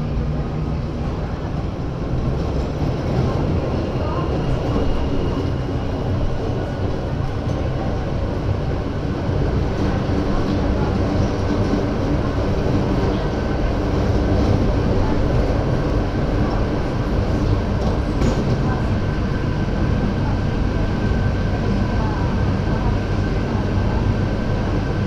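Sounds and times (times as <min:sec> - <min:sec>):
rack railway train rumbling uphill: 0:00.0 - 0:25.0.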